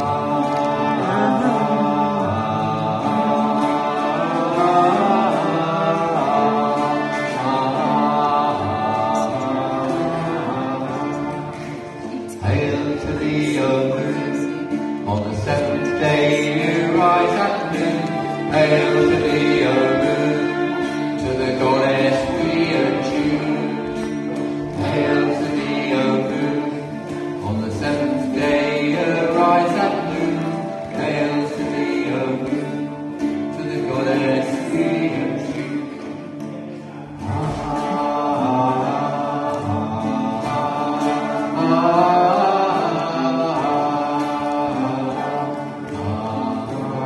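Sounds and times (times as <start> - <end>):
bowed violin: 0.0 - 47.0
group singing a chant: 0.0 - 47.0
plucked lute: 0.0 - 47.0.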